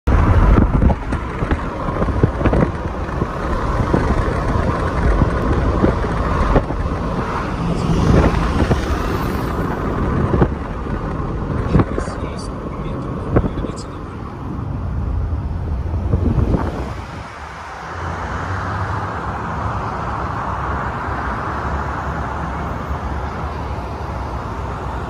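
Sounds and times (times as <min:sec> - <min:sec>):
car road rumble: 0:00.0 - 0:25.0
wind: 0:00.0 - 0:25.0.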